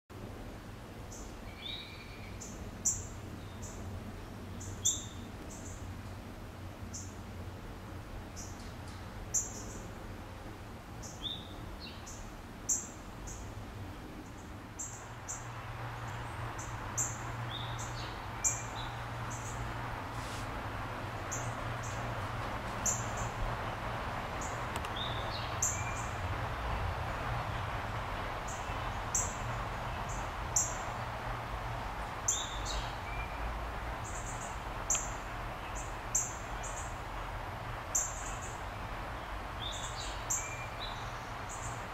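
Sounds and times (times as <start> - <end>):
steady outdoor hiss: 0.1 - 41.9.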